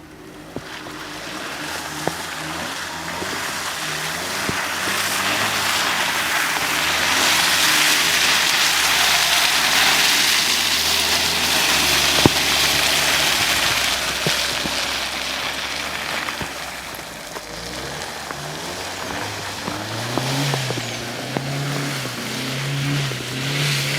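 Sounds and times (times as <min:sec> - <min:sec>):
car engine hum: 0:00.0 - 0:23.9
tyres rushing through mud and water: 0:00.0 - 0:23.9.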